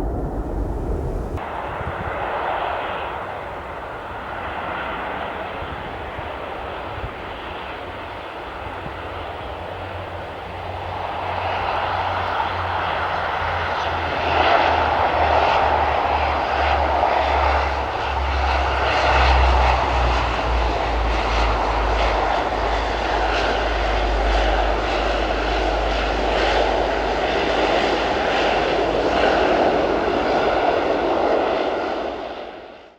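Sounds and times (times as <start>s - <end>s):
jet engines roaring: 0.0s - 32.8s.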